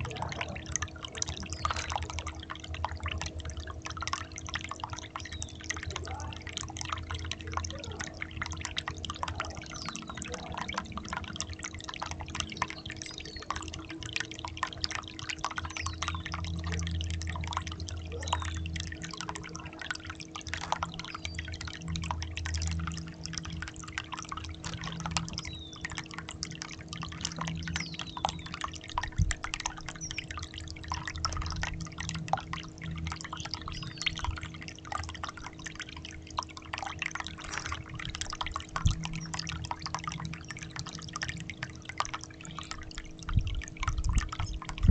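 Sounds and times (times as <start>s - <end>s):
steady low hum: 0.0s - 44.9s
water dripping and splashing: 0.0s - 44.9s.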